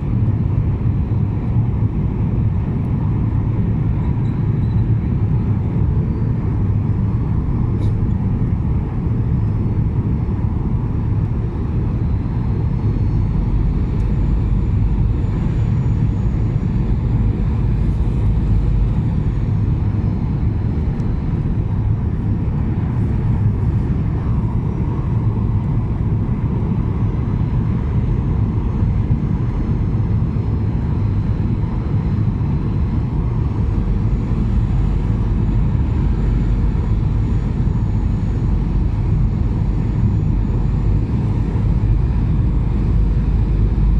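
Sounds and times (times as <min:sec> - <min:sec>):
airliner cabin rumble: 0:00.0 - 0:43.9
faint high engine whines: 0:00.0 - 0:43.9.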